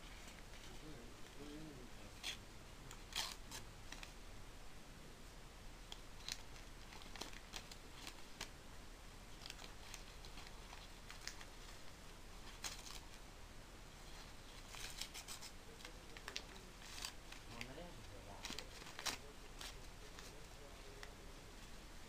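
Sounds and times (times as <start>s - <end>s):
paper crinkling and tearing: 0.1s - 4.2s, 5.9s - 8.5s, 9.3s - 13.2s, 14.0s - 21.3s.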